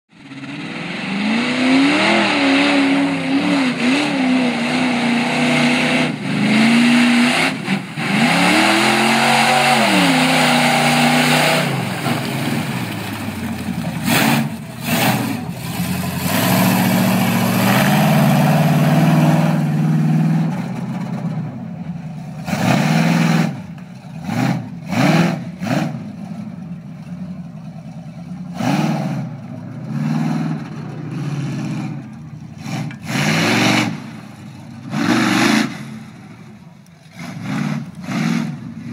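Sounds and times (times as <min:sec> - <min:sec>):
truck engine revving hard: 0:00.1 - 0:21.6, 0:22.2 - 0:26.6, 0:28.4 - 0:38.9.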